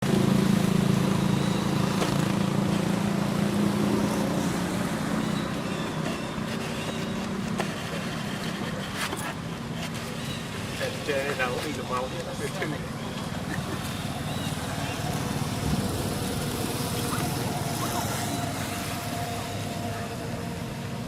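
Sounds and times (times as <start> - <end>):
street noise: 0.0 - 21.0
vehicle engine running: 0.0 - 21.0.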